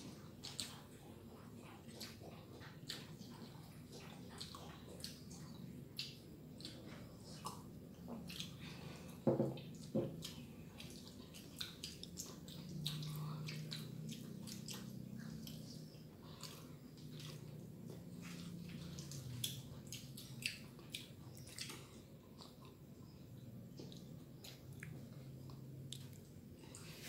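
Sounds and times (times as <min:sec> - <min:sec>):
children chewing food: 0:00.0 - 0:27.0.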